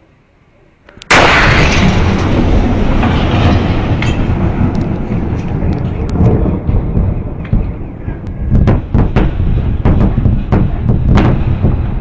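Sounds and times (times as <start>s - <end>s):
sharp bangs: 1.1s - 7.9s, 8.5s - 12.0s
loud low rumble: 1.1s - 12.0s.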